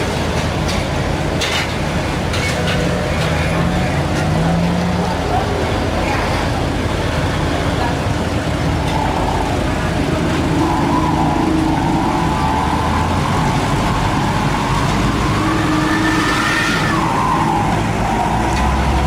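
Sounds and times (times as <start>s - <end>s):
heavy diesel engines running: 0.0s - 19.0s
whining tone: 1.3s - 7.2s, 8.0s - 19.0s.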